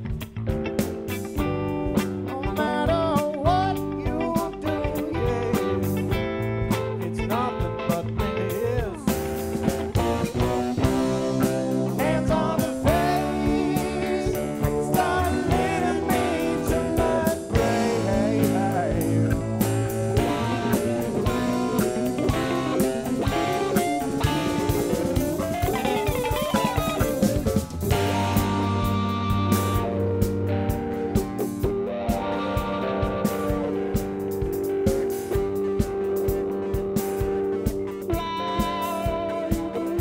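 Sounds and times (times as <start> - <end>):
electric guitar lead bending notes: 0.0 - 40.0
live jam band instrumental: 0.0 - 40.0.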